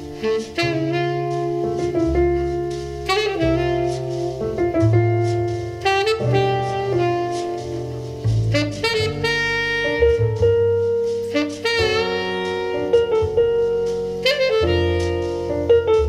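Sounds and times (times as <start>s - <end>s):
saxophone-led jazz: 0.0s - 16.0s.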